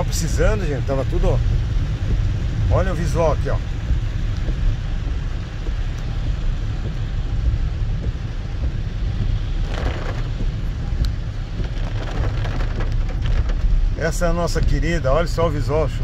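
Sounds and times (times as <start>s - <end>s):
car engine and tyres rumbling: 0.0s - 16.0s
rain and wet-road spray hiss: 0.0s - 16.0s.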